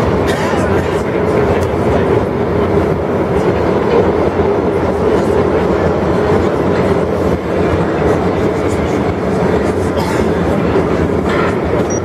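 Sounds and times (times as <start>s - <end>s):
constant hum: 0.0s - 12.0s
train wheels and motors rumbling: 0.0s - 12.0s.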